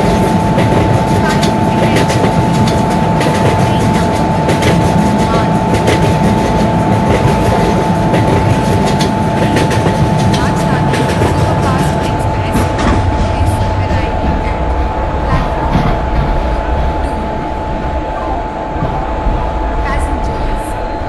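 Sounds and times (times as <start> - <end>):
steady whine: 0.0 - 21.0
train clicks and rattles: 0.0 - 21.0
train rumbling: 0.0 - 21.0.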